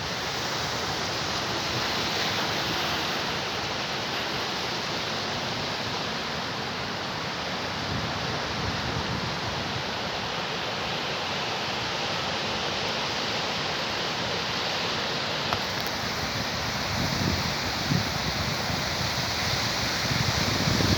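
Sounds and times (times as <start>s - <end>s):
waves washing onto beach: 0.0s - 20.9s.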